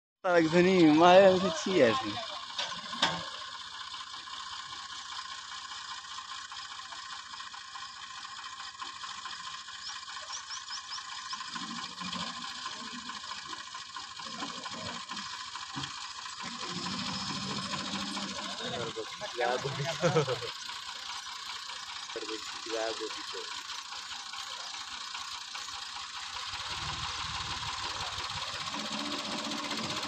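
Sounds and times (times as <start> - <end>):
well boring rig clattering: 0.3 - 30.0.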